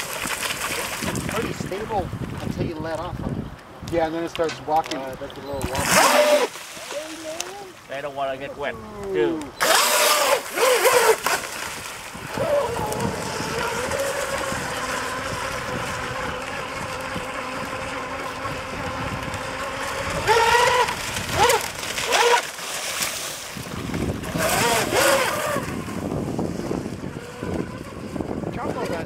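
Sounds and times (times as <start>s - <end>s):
wind: 0.0s - 29.0s
motor boat high whine: 5.2s - 29.0s.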